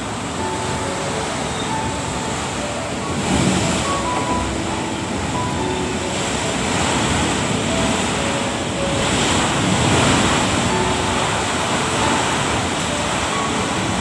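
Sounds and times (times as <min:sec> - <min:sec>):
heavy rain: 0:00.0 - 0:14.0
strong gusting wind: 0:01.7 - 0:14.0.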